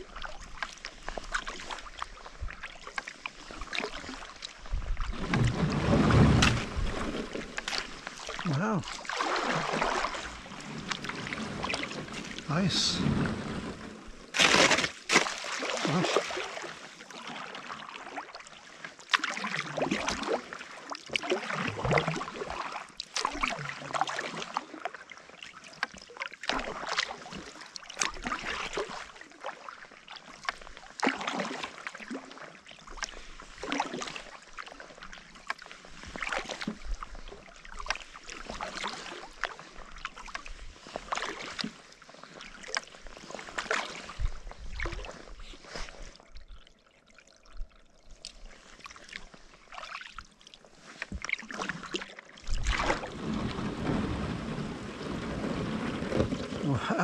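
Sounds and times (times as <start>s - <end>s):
kayak paddle splashing in water: 0.0s - 47.4s, 48.1s - 57.0s.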